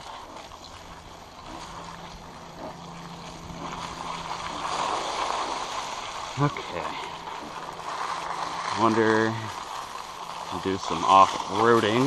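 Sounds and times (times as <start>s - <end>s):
bicycle tyres rolling through leaves: 0.0s - 12.0s
faint steady hum: 0.0s - 12.0s.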